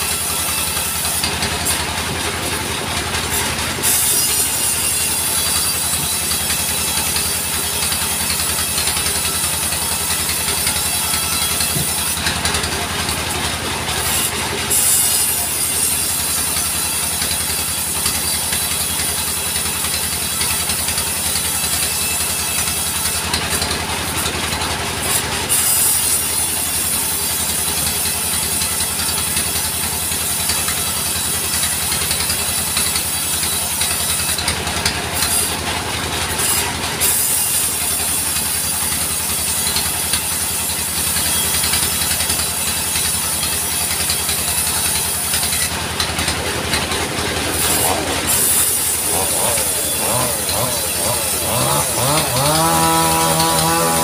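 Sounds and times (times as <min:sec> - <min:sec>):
saw blade whining: 0:00.0 - 0:54.0
sawmill engine pulsing: 0:00.0 - 0:54.0.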